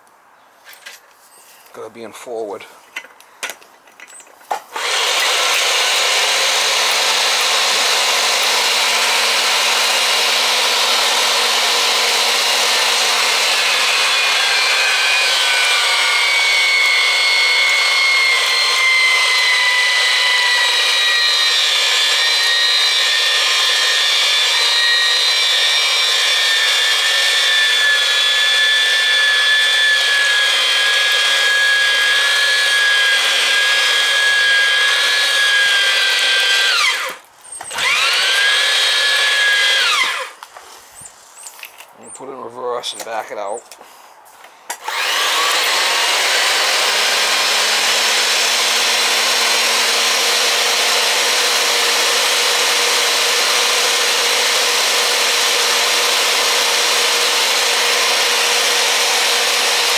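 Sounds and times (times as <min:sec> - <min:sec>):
pipe threading machine whining: 0:04.7 - 0:40.4, 0:44.7 - 0:59.9.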